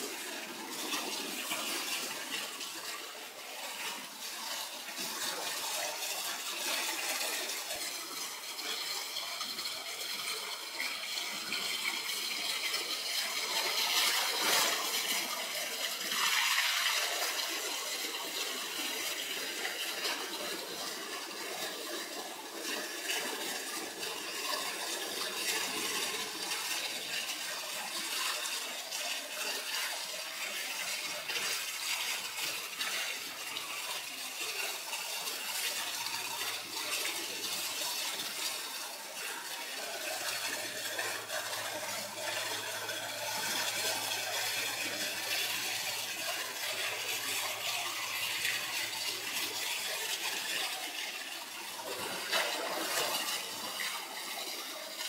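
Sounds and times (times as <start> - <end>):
waterfall running and splashing: 0.0 - 55.0.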